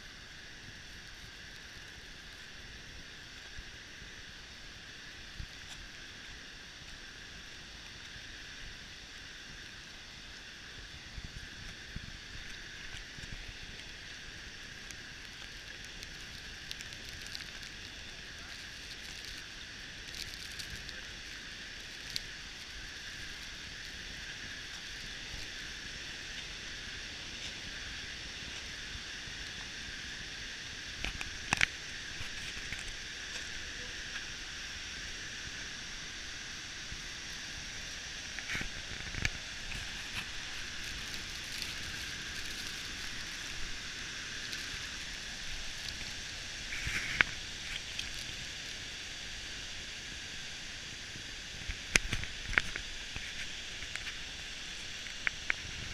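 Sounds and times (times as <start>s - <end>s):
waterfall hissing: 0.0s - 55.9s.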